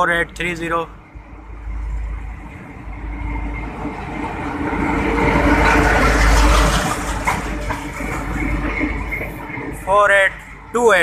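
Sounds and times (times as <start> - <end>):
diesel locomotives passing: 0.0 - 11.0.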